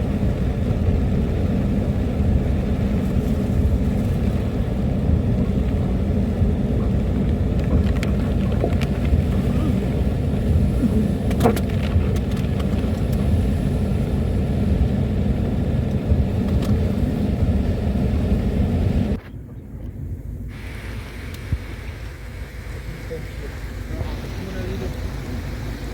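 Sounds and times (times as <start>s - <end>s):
road noise: 0.0s - 25.9s
vehicle engine rumble: 0.0s - 25.9s.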